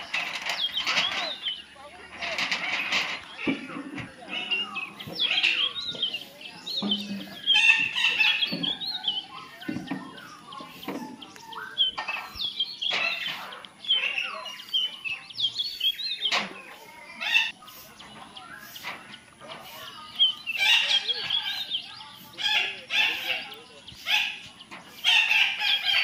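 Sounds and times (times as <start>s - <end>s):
parakeets chattering calls: 0.0s - 26.0s.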